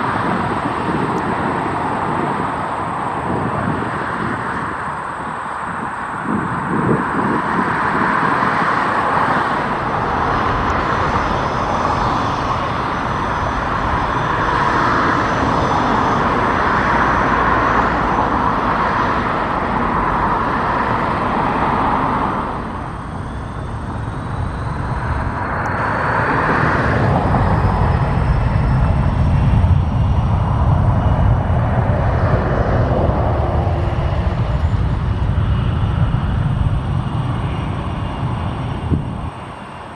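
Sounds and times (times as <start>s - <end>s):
deep engine rumble: 0.0s - 39.9s
jet engine roar: 0.0s - 39.9s
jet turbine whine: 0.0s - 39.9s.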